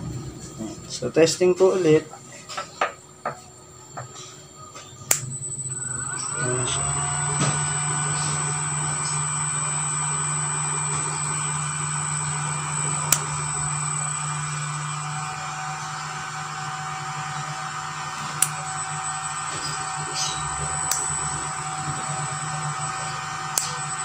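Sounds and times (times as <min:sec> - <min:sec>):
electric motor humming and whining: 0:01.9 - 0:24.0.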